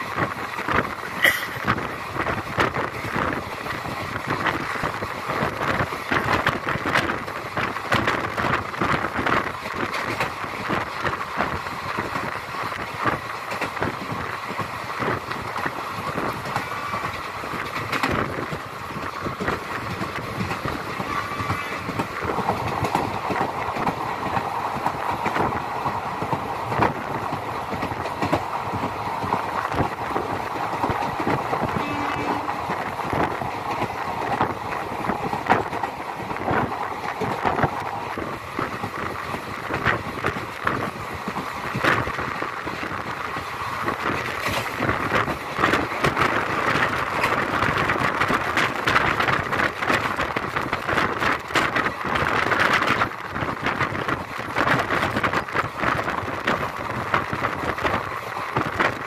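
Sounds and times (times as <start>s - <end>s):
train rumble and rattle: 0.0s - 59.0s
wheels clacking over rails: 0.0s - 59.0s.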